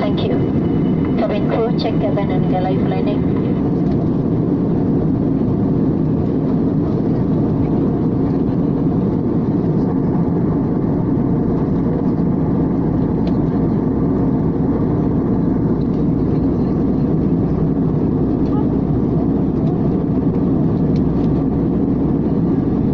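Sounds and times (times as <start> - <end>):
airliner cabin roar: 0.0 - 22.9.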